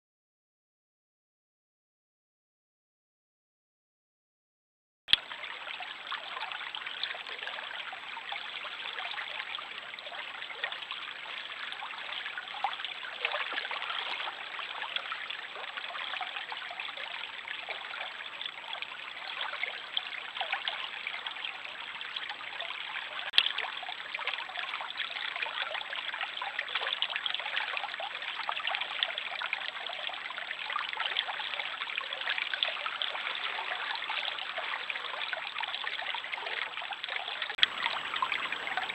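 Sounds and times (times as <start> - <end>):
stream trickling and babbling: 5.1 - 38.9.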